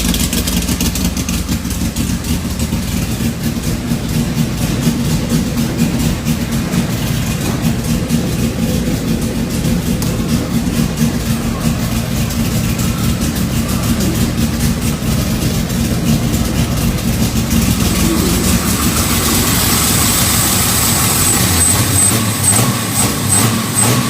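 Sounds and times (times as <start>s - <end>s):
race engine running: 0.0s - 24.0s.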